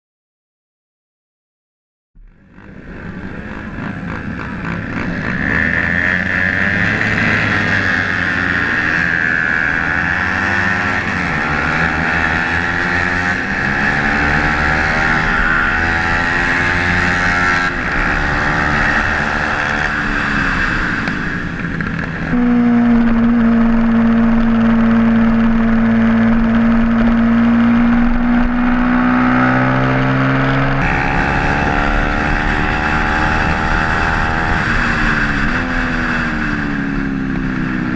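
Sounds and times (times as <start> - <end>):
racing motorcycle engine revving: 2.3 - 37.9.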